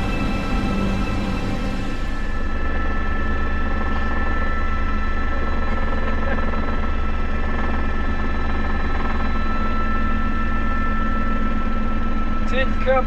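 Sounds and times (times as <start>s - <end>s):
high whine: 0.0s - 12.9s
helicopter cabin drone: 0.0s - 13.0s.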